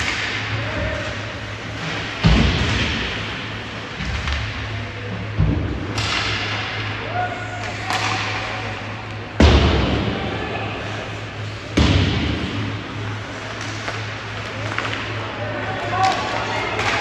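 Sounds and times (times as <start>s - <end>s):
low arena hum: 0.0s - 17.0s.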